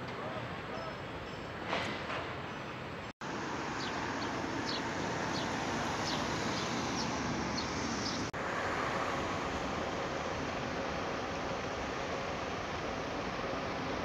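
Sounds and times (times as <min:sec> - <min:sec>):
road traffic: 0:00.0 - 0:14.0
wind: 0:00.0 - 0:14.0.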